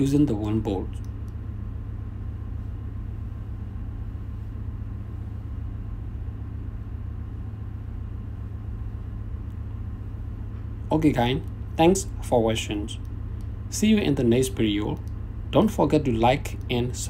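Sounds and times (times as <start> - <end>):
ship engine-room machinery drone: 0.0 - 17.0.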